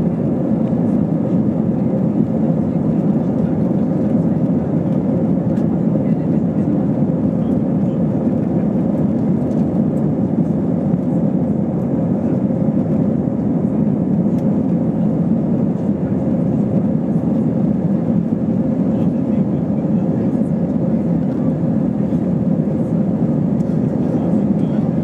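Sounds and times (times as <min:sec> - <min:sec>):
jet engines humming: 0:00.0 - 0:25.0.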